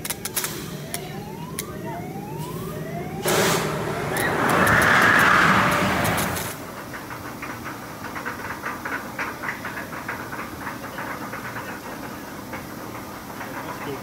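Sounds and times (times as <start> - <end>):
roller coaster rattling: 0.0 - 14.0
roller coaster rushing: 0.0 - 14.0.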